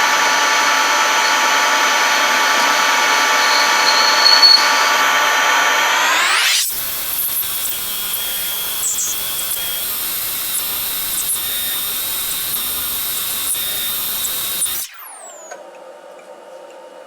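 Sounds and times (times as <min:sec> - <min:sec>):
power tool working on metal: 0:00.0 - 0:15.6.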